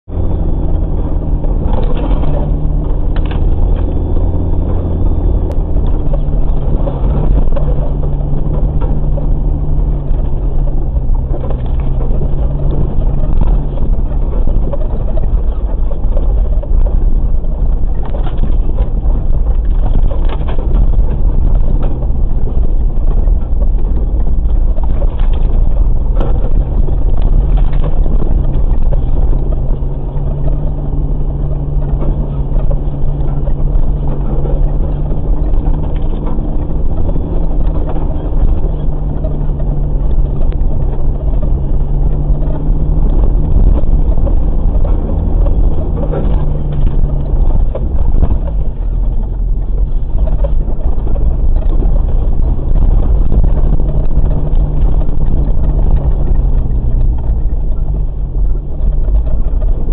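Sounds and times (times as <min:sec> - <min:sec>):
vehicle engine running slowly: 0:00.0 - 0:59.9.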